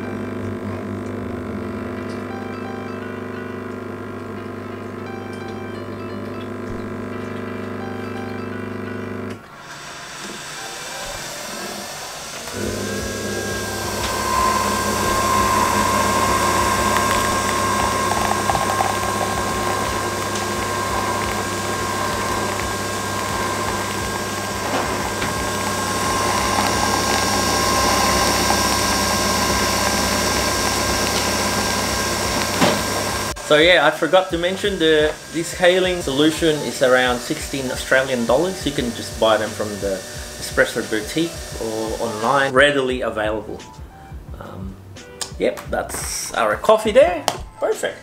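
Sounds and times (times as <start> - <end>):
coffee pouring: 0.0 - 42.5
capsule machine whirring whine: 0.0 - 42.6
pump buzzing hum: 0.0 - 45.0.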